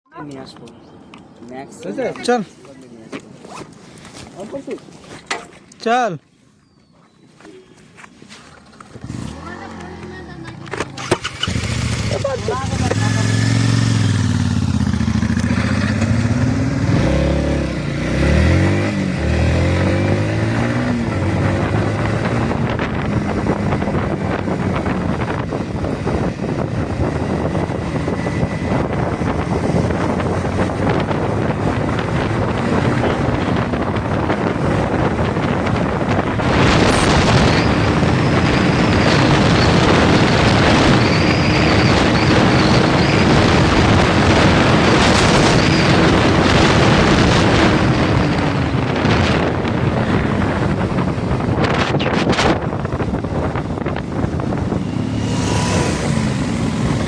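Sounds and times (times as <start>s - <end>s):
motorcycle engine revving: 8.8s - 57.0s
wind noise on microphone: 10.3s - 57.0s.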